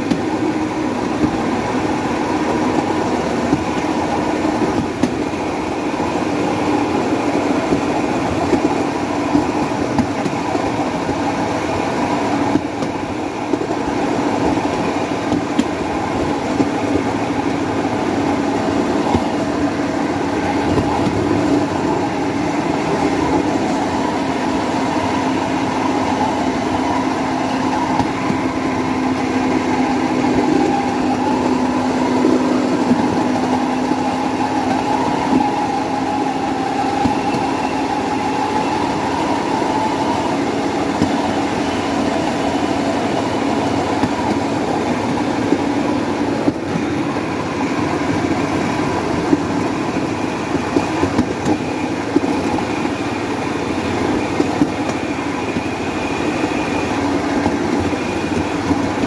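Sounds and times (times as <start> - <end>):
wheels rumbling on rails: 0.0 - 59.0.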